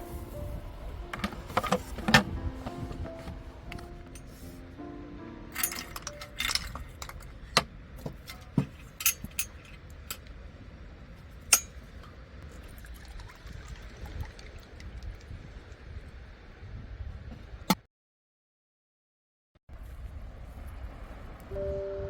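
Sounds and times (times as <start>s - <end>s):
low wind rumble: 0.0s - 17.7s, 19.7s - 22.0s.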